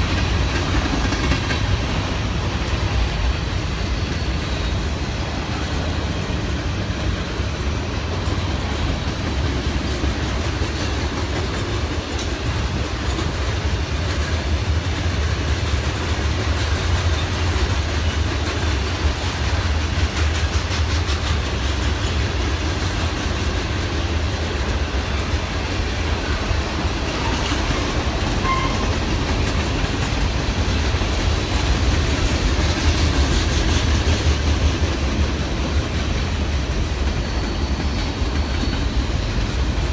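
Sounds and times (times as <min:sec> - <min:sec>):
train cars rumbling: 0:00.0 - 0:39.9
wheels clicking over rail joints: 0:00.0 - 0:39.9.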